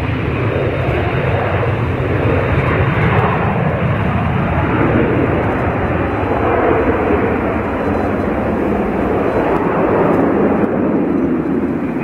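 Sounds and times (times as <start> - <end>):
jet airliner passing: 0.0 - 12.0.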